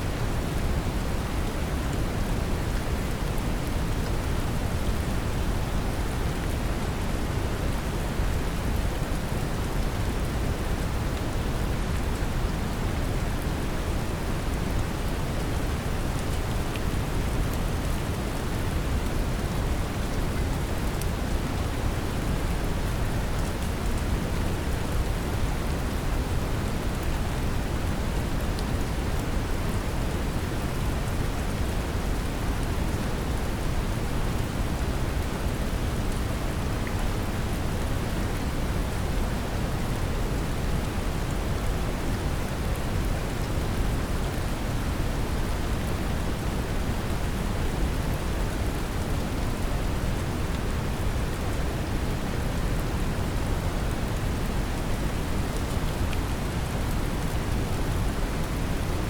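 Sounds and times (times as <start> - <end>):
brown noise hiss: 0.0 - 59.0
gentle rain: 0.0 - 59.0.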